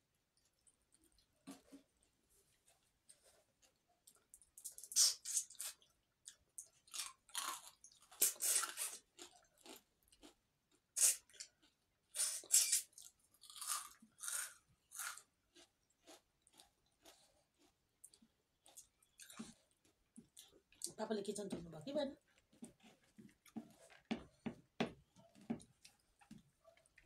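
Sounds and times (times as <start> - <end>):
chewing and crunching food: 0.3 - 4.9, 5.5 - 21.5, 22.2 - 27.0.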